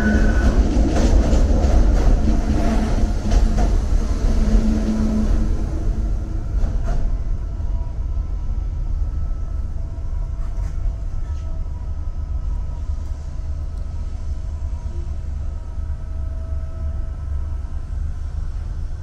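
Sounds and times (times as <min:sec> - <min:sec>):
train equipment low hum: 0:00.0 - 0:19.0.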